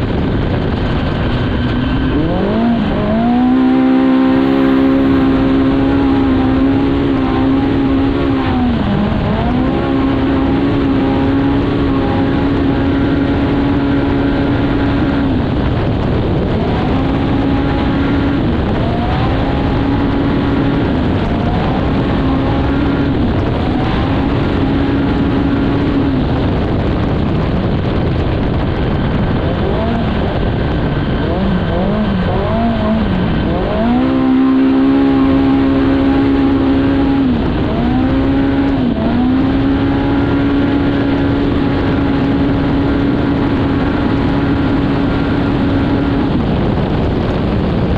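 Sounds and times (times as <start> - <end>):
continuous rushing noise: 0.0 - 47.9
engine revving at full throttle: 0.0 - 47.9.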